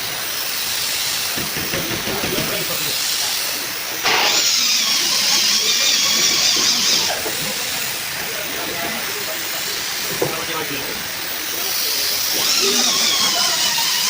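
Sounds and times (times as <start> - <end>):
compressed air gun hissing: 0.0 - 14.0.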